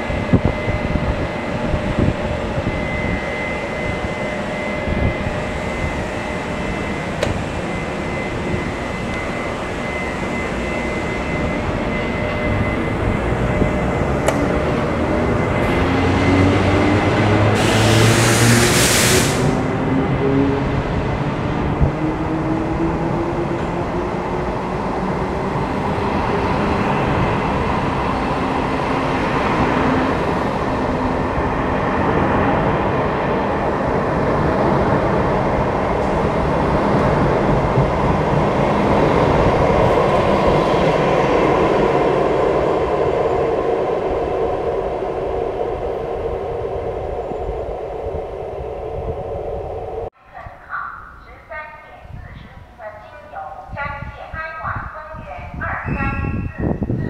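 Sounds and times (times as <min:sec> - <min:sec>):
train wheels rumbling on rails: 0:00.0 - 0:50.1.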